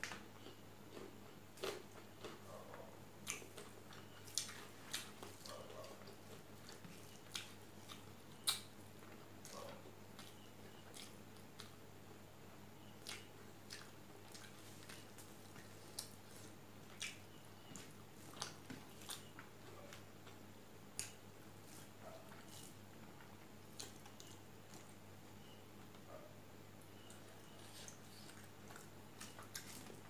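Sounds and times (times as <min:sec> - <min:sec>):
chewing and mouth smacks: 0:00.0 - 0:11.8, 0:13.0 - 0:25.0, 0:27.0 - 0:30.0
faint low hum: 0:00.0 - 0:30.0.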